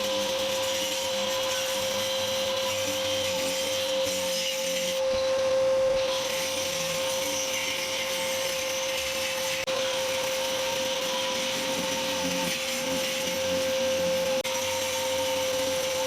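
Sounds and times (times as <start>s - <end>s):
grinding and scraping plaster: 0.0s - 5.4s, 6.0s - 16.0s
power tool whining: 0.0s - 16.0s.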